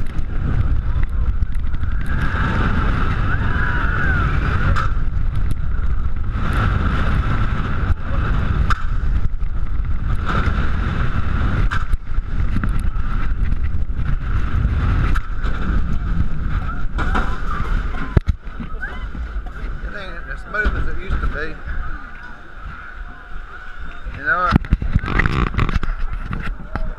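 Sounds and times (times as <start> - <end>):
roller coaster rattles: 0.0 - 26.9
wind rumble on microphone: 0.0 - 26.9.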